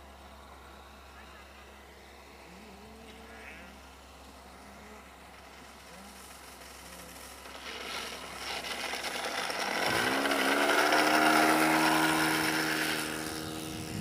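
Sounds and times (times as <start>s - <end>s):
model aircraft engine: 0.0s - 14.0s.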